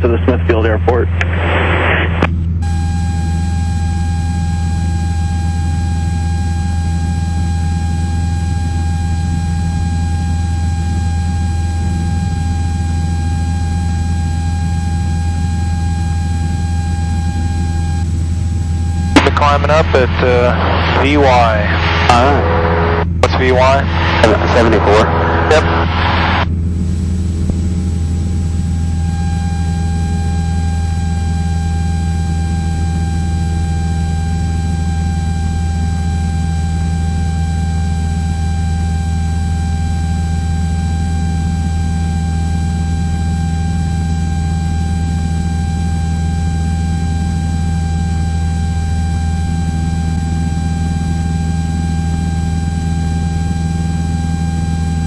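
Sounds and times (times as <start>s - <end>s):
propeller engine droning: 0.0s - 55.0s.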